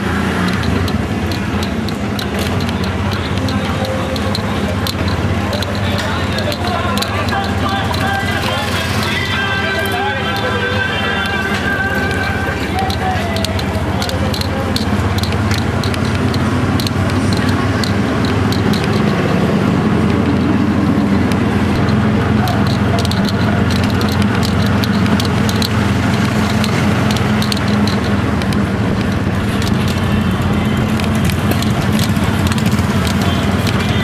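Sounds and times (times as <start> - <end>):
motorcycle engine running: 0.0 - 34.0
road and wind noise: 0.0 - 34.0
light clicks and rattles: 0.4 - 34.0.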